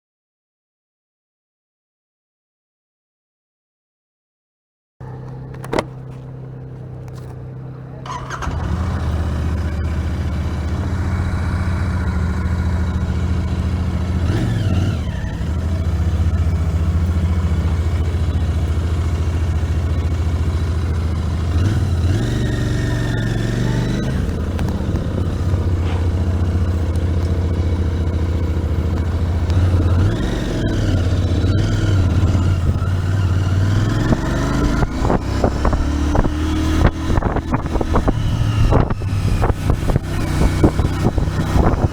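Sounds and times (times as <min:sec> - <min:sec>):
motorcycle engine running: 0:05.0 - 0:41.9.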